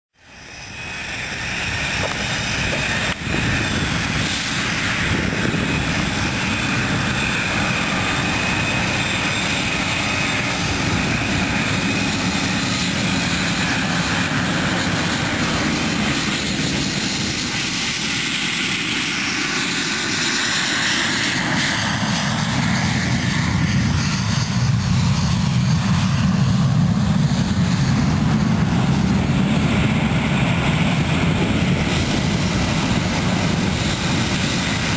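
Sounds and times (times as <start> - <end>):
aircraft engines roaring: 0.2 - 34.9.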